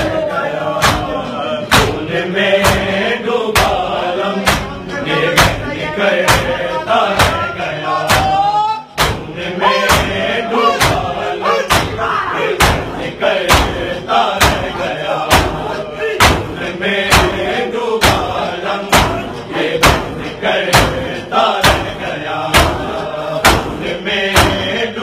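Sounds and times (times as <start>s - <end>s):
men chanting: 0.0s - 25.0s
chest beating slaps: 0.7s - 24.8s.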